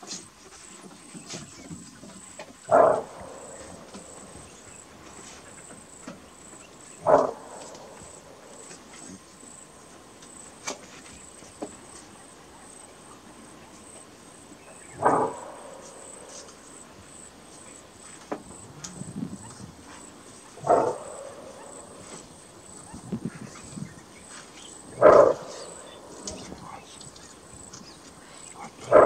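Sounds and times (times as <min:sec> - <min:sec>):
antelope barking: 0:02.6 - 0:10.8, 0:12.2 - 0:29.0.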